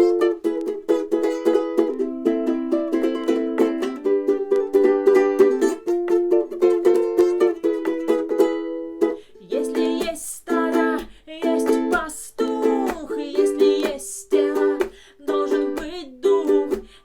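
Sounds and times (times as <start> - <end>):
ukulele strumming chords: 0.0 - 17.0.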